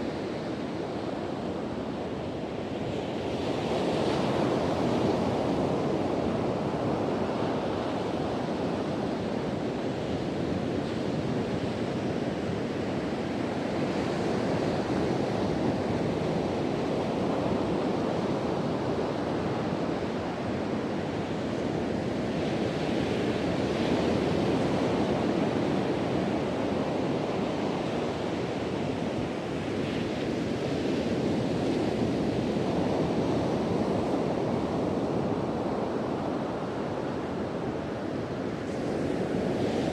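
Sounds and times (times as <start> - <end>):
wind blowing over microphone: 0.0 - 39.9.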